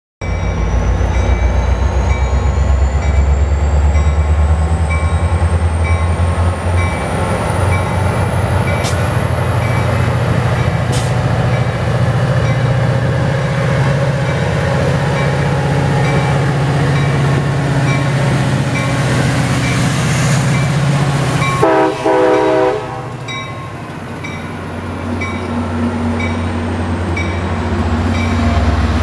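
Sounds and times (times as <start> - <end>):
locomotive bell ringing: 0.2 - 28.6
diesel locomotive engine: 0.2 - 29.0.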